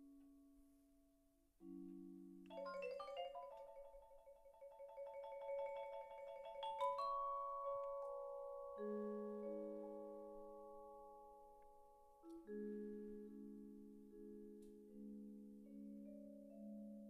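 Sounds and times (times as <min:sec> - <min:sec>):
vibraphone chords: 0:02.5 - 0:17.0.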